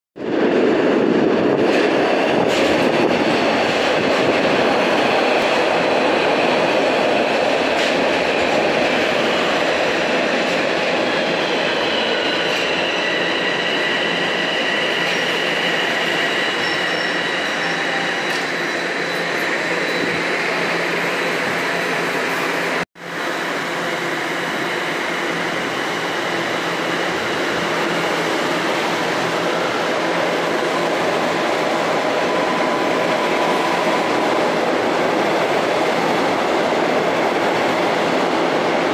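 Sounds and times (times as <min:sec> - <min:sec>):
train wheels rumbling on rails: 0:00.2 - 0:38.9.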